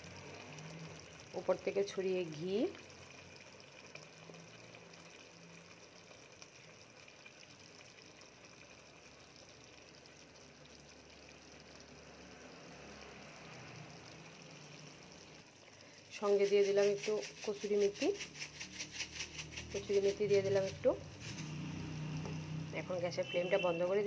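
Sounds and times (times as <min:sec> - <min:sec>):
curry simmering: 0:00.0 - 0:24.0.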